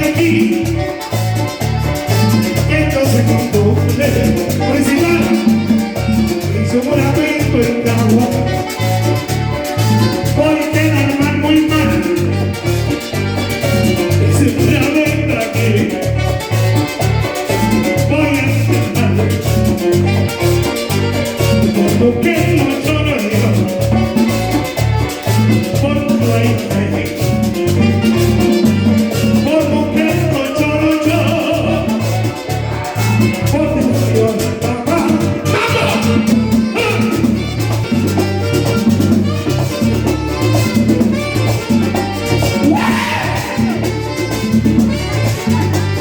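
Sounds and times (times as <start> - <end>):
latin dance band music: 0.0 - 46.0.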